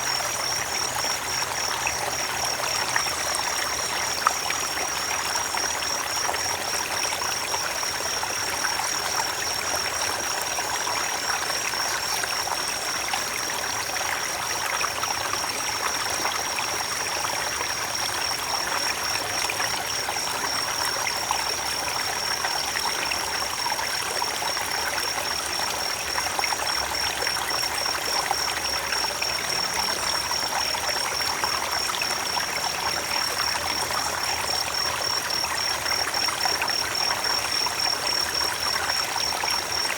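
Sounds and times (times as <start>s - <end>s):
creek water trickling: 0.0s - 39.9s.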